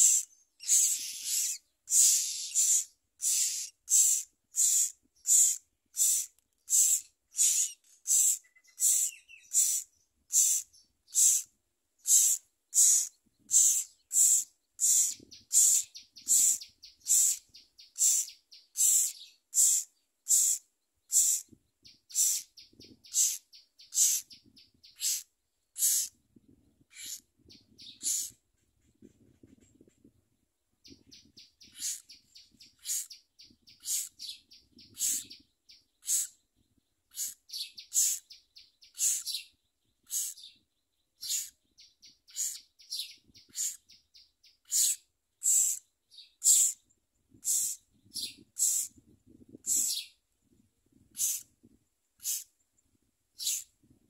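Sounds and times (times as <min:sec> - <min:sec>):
nestling birds begging calls: 0:00.0 - 0:26.2, 0:26.8 - 0:28.4, 0:30.8 - 0:36.4, 0:37.0 - 0:40.6, 0:41.2 - 0:50.2, 0:51.2 - 0:51.5, 0:52.2 - 0:52.5, 0:53.4 - 0:53.7.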